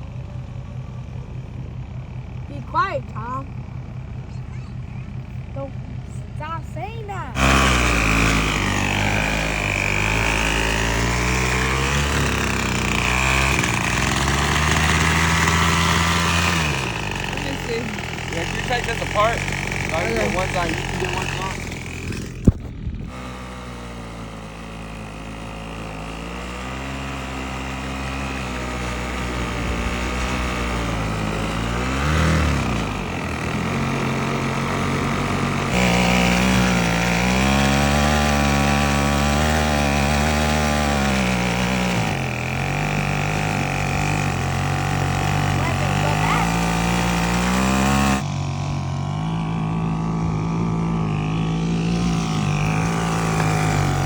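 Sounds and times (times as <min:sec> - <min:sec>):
small two-stroke engine running: 0:00.0 - 0:54.0.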